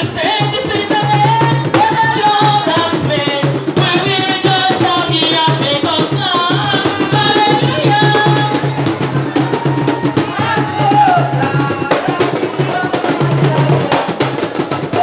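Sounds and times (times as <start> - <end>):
drums and percussion beat: 0.0 - 15.0
person singing: 0.0 - 15.0.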